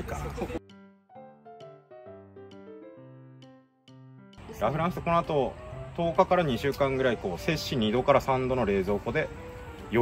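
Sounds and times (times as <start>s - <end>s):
soft piano-like keyboard melody: 0.0s - 10.0s.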